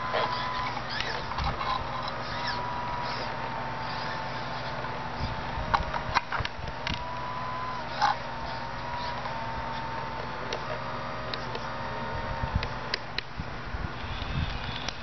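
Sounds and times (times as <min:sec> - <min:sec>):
model excavator motor whine: 0:00.0 - 0:15.0.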